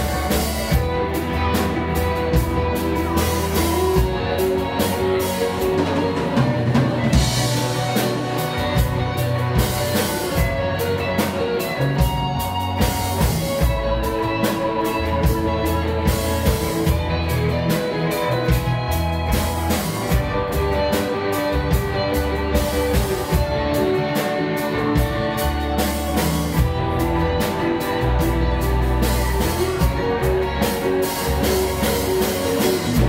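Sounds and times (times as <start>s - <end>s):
bass guitar: 0.0s - 33.0s
drum kit beat: 0.0s - 33.0s
electric guitars: 0.0s - 33.0s.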